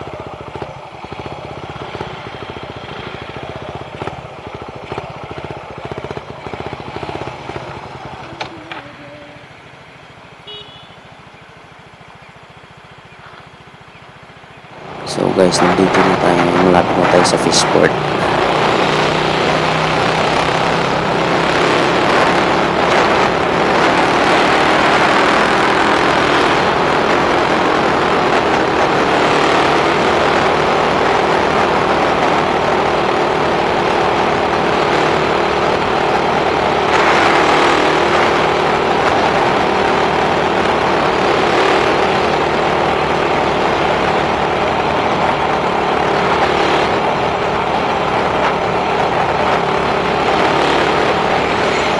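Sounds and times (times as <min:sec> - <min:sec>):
motorcycle engine hum: 0:00.0 - 0:51.9
road and wind noise: 0:00.0 - 0:51.9.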